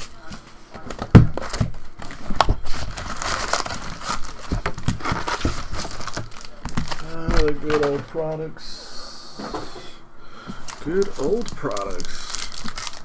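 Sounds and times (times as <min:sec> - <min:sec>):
foil packs crinkling: 0:00.0 - 0:08.6, 0:10.5 - 0:13.0.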